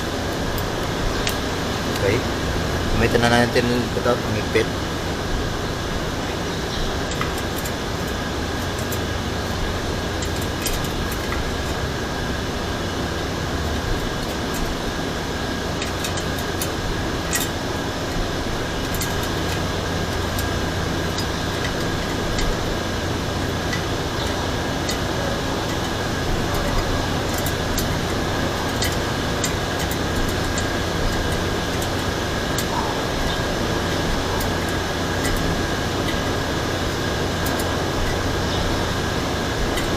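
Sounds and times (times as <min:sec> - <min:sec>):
background hum and hiss: 0:00.0 - 0:39.9.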